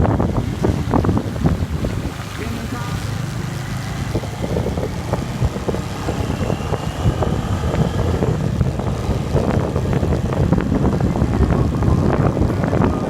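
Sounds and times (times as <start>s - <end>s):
low rumble: 0.0s - 13.0s
wind buffeting microphone: 0.0s - 13.0s.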